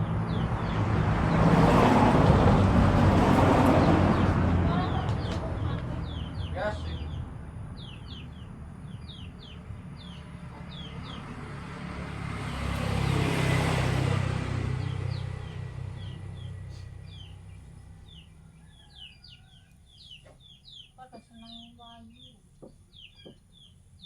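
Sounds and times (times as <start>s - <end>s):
small birds chirping: 0.0s - 1.8s, 3.6s - 24.0s
vehicle passing by: 0.0s - 20.5s.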